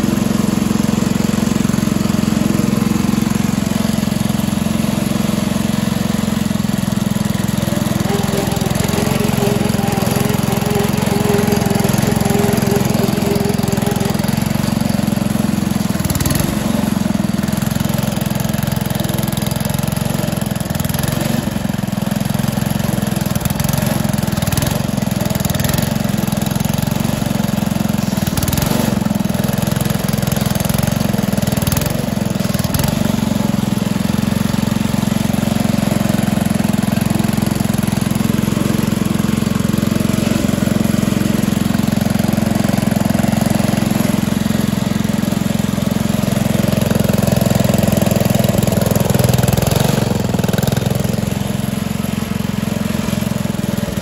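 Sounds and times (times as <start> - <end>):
crawler loader engine running: 0.0 - 54.0.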